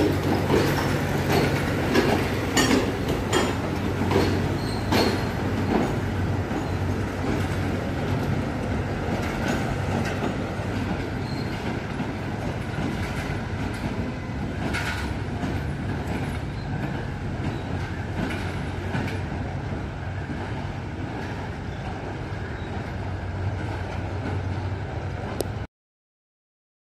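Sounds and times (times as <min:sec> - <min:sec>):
train wheels clacking over rail joints: 0:00.0 - 0:25.6
train rumble and low drone: 0:00.0 - 0:25.7.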